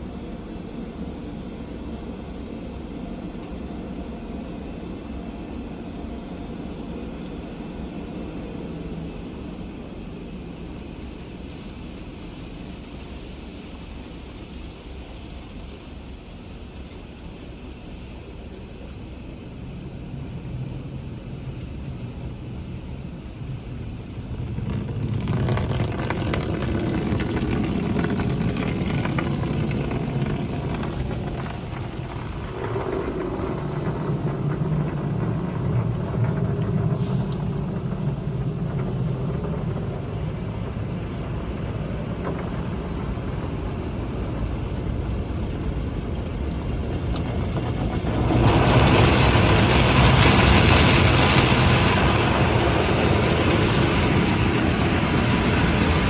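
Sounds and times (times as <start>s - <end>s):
car wash machinery rumble: 0.0s - 56.0s.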